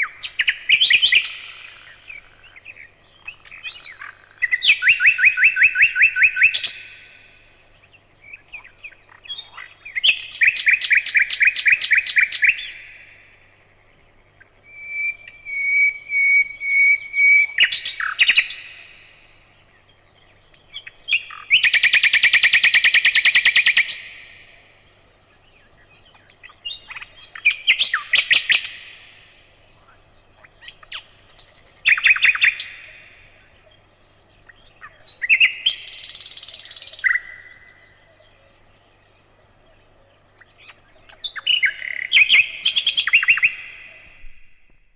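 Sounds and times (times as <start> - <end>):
nightingale singing: 0.0 - 44.9.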